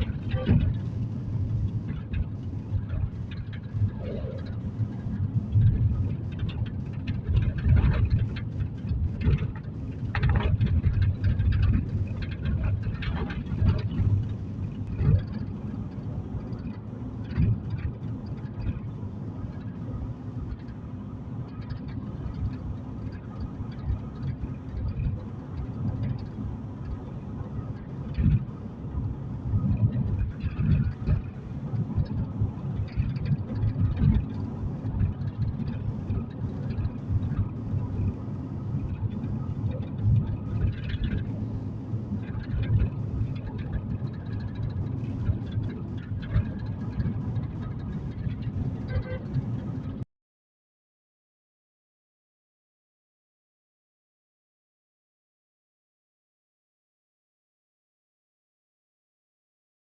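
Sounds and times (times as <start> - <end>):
bumps and knocks from road: 0.0 - 19.8, 21.5 - 50.0
road and engine rumble in car: 0.0 - 50.1.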